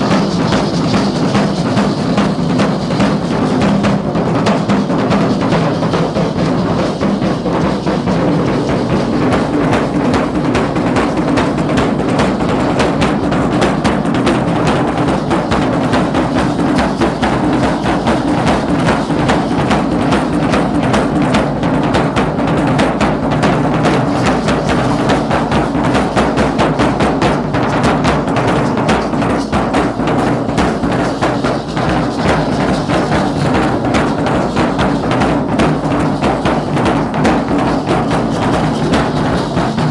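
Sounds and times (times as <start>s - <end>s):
drums beating dense rhythm: 0.0s - 39.9s.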